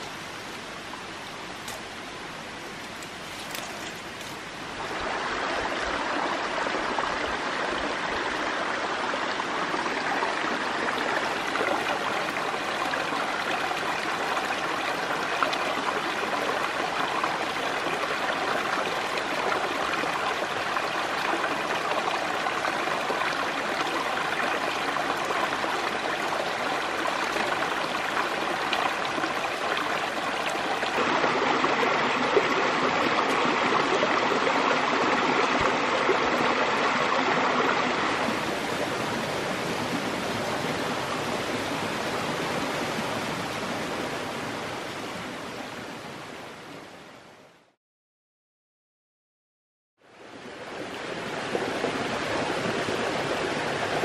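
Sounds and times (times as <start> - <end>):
stream running over rocks: 0.0 - 47.7, 50.0 - 54.0.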